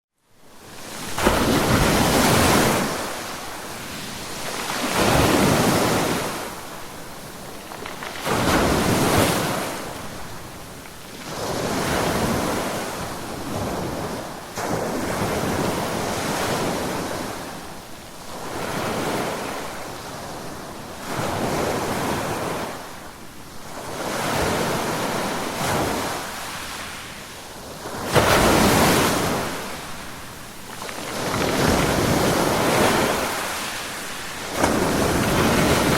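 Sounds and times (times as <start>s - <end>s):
waves crashing: 0.5s - 35.9s.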